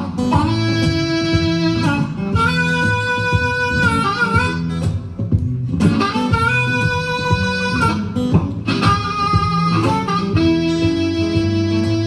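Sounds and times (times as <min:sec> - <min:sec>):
blues harmonica long notes: 0:00.0 - 0:12.0
picked acoustic guitar: 0:00.0 - 0:12.0.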